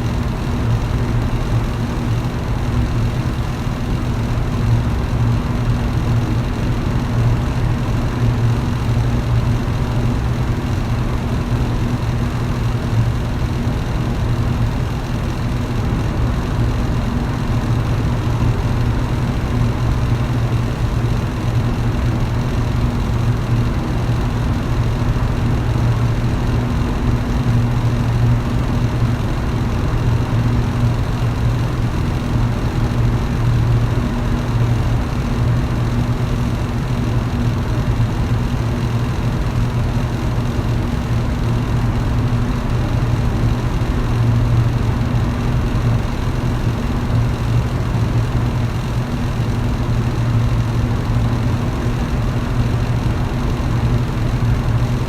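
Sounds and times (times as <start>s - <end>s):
electric fan motor hum: 0.0s - 55.0s.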